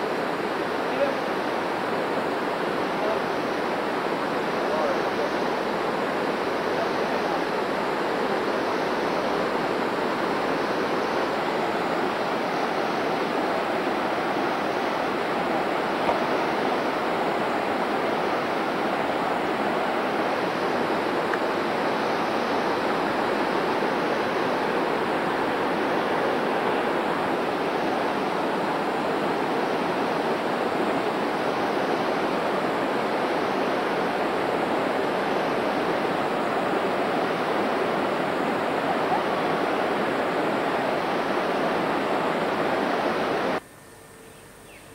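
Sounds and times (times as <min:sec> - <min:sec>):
river rushing over rocks: 0:00.0 - 0:43.6.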